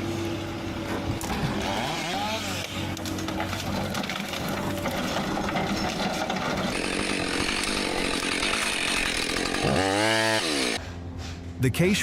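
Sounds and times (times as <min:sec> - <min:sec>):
motorized saw cutting wood: 0:01.2 - 0:10.8.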